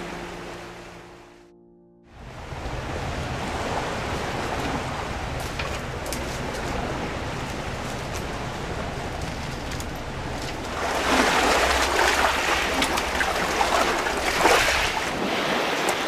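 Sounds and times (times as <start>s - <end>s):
sea waves washing on shore: 0.0s - 1.3s, 2.2s - 16.0s.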